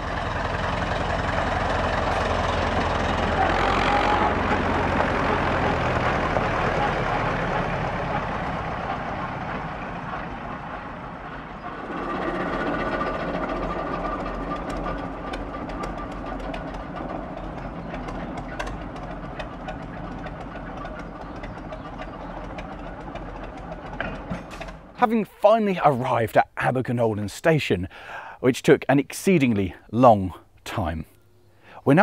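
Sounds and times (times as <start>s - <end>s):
diesel locomotive engine running: 0.0s - 26.9s, 27.8s - 28.4s.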